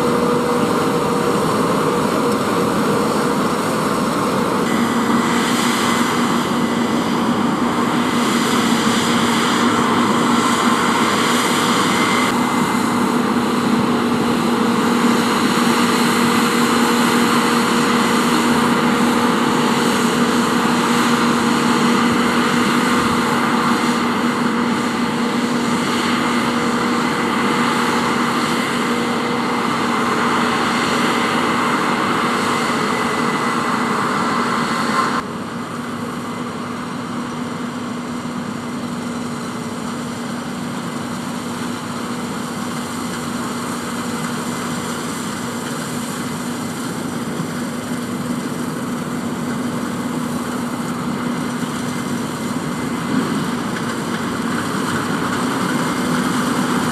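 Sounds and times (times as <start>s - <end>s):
combine harvester droning: 0.0s - 56.9s.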